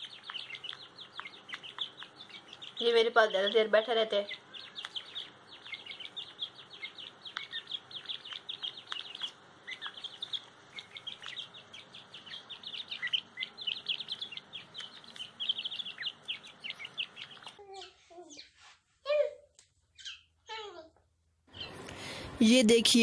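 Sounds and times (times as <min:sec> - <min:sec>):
chicks peeping: 0:00.0 - 0:18.6, 0:21.5 - 0:22.3.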